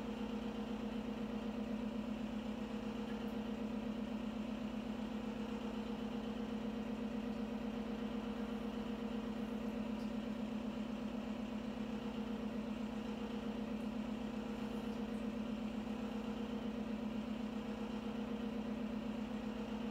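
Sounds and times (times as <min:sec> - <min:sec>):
machine hum with flutter: 0:00.0 - 0:19.9.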